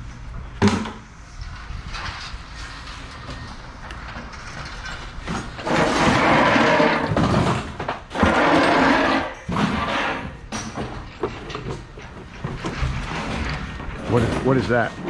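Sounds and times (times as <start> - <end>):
scrap metal clattering: 0.6 - 15.0.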